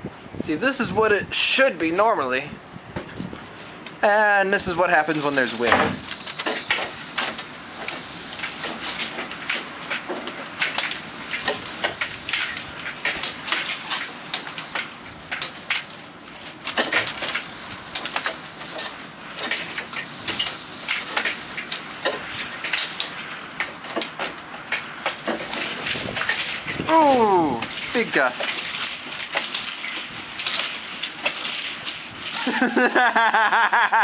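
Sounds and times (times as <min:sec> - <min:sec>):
wind rushing through window: 0:00.0 - 0:33.4.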